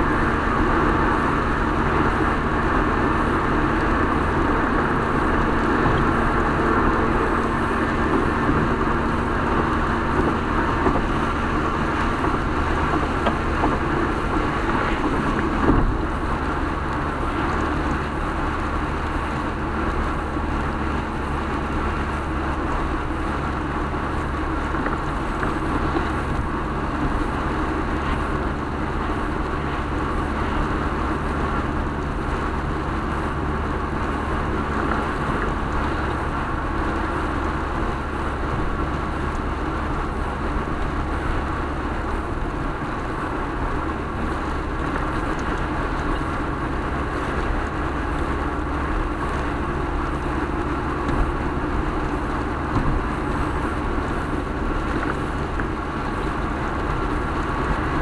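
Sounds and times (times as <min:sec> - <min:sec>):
low engine hum: 0:00.0 - 0:58.0
tyres on wet pavement: 0:00.0 - 0:58.0.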